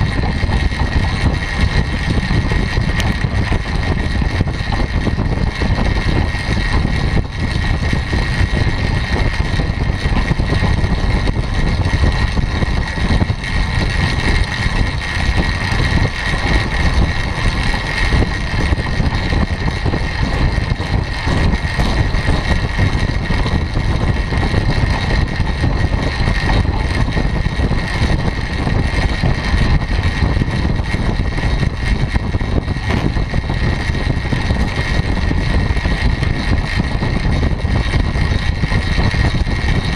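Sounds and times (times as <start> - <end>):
steady high whine: 0.0 - 39.9
wind buffeting microphone: 0.0 - 39.9.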